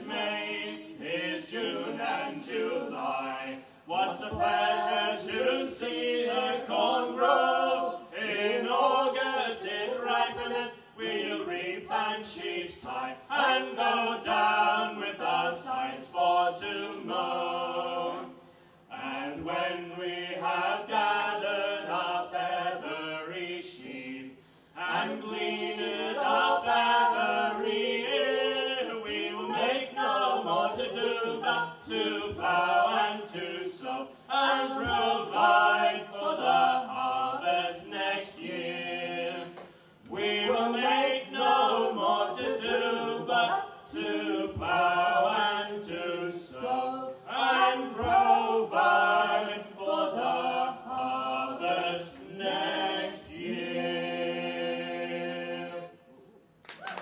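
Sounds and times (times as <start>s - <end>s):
mixed choir singing in harmony: 0.0s - 56.3s.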